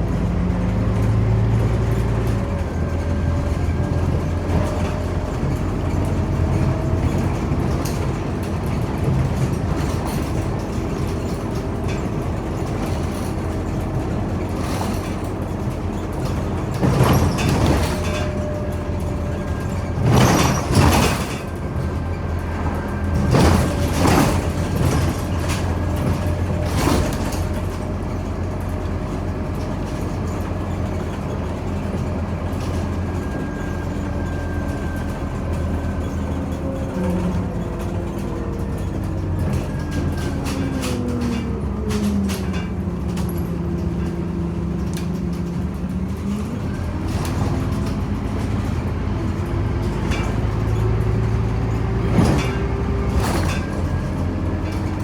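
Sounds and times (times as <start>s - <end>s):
bus engine and road drone: 0.0s - 55.0s.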